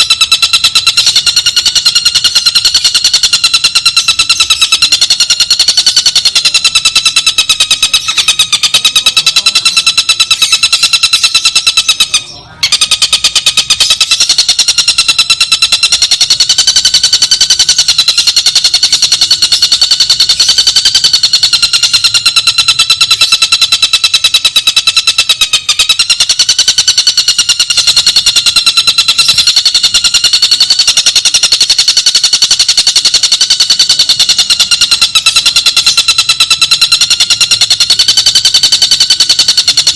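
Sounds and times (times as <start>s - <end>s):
bird buzzing trill: 0.0s - 39.9s.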